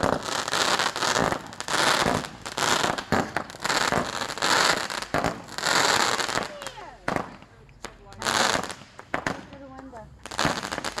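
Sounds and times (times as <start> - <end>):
fireworks bursts: 0.0 - 11.0
fireworks crackling and popping: 0.0 - 11.0.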